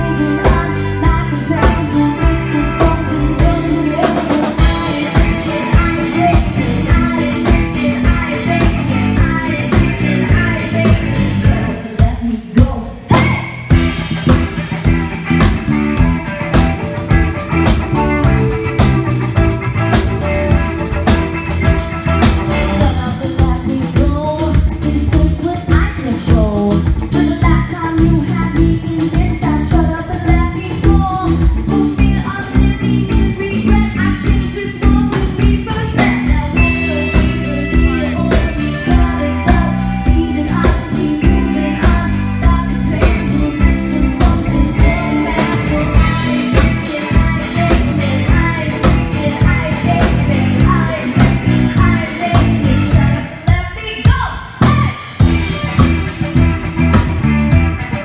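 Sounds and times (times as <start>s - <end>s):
rock band playing: 0.0s - 58.0s
woman singing lead: 0.0s - 58.0s.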